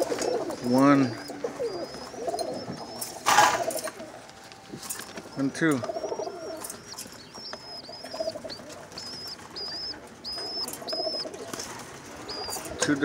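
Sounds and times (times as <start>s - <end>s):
pigeons cooing: 0.0s - 13.0s
young pigeons peeping: 0.0s - 13.0s.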